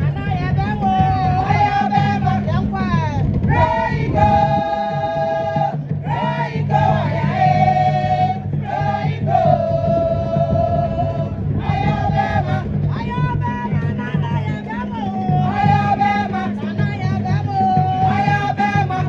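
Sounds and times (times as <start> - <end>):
steady low accompaniment: 0.0 - 19.0.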